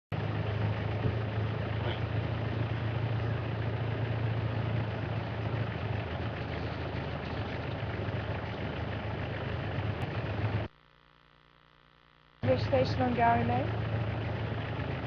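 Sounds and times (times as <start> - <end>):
road and wind noise: 0.1 - 10.7, 12.4 - 15.0
vehicle engine droning: 0.1 - 10.7, 12.4 - 15.0.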